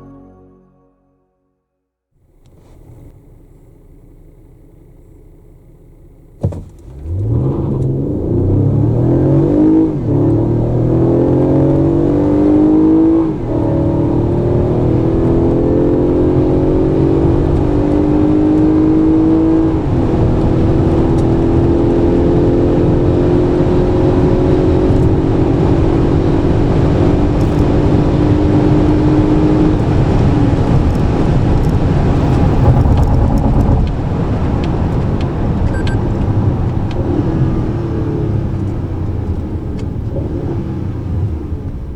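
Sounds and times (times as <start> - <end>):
car engine accelerating hard: 2.2 - 41.9
road noise: 2.2 - 41.9.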